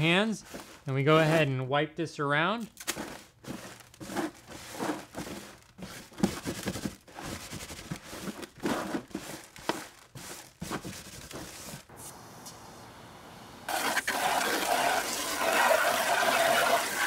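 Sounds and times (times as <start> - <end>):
sawdust scrubbing in plastic pan: 0.0 - 1.6, 2.9 - 12.0, 13.7 - 17.0.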